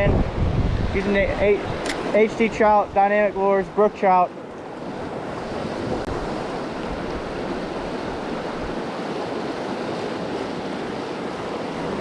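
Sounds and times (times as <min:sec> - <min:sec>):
wind buffeting microphone: 0:00.0 - 0:03.8, 0:04.4 - 0:12.0
river water flowing: 0:00.1 - 0:12.0.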